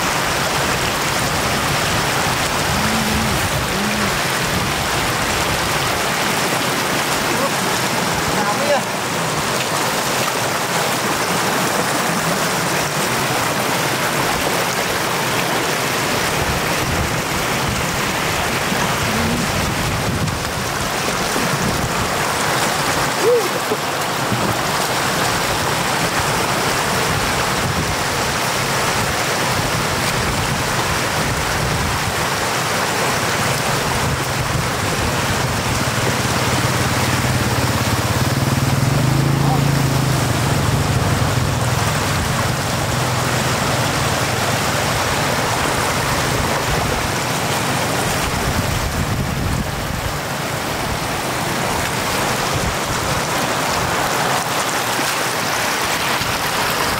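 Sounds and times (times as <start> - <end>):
floodwater rushing: 0.0 - 56.9.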